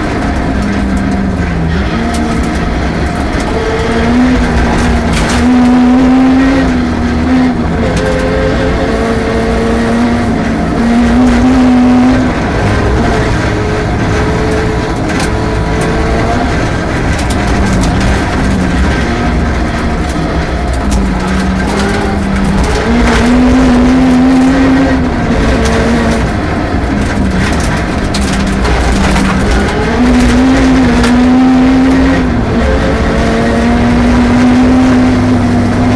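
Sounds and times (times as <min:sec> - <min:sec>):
rally car engine running hard: 0:00.0 - 0:35.9.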